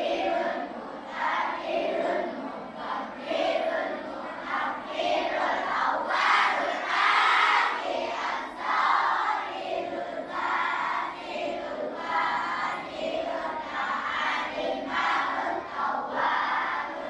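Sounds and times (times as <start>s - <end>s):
children chanting in unison: 0.0s - 17.0s.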